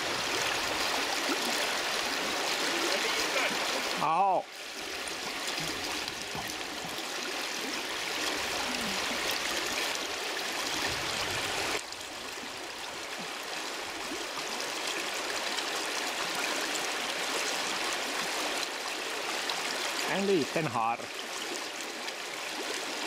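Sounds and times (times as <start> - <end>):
river water rushing over stones: 0.0 - 23.0.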